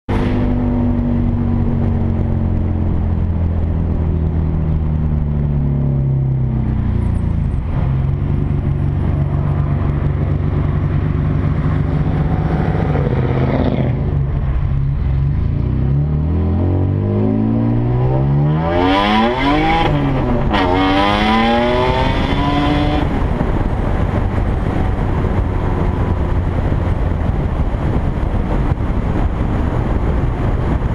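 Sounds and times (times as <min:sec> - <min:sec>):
car engine revving: 0:00.1 - 0:30.9.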